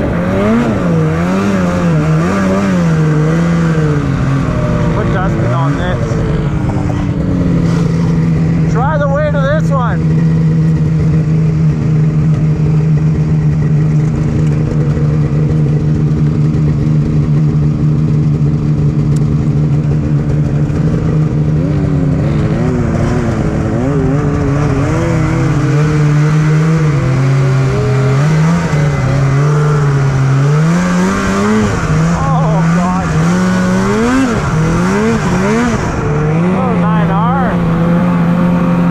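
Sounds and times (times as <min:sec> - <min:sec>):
snowmobile engine idling: 0:00.0 - 0:38.9
snowmobile engine revving: 0:00.0 - 0:38.9.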